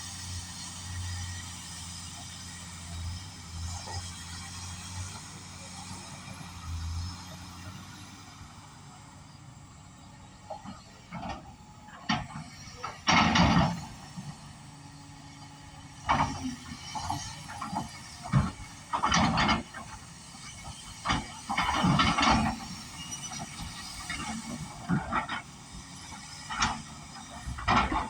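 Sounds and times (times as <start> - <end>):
excavator engine: 0.0 - 28.0.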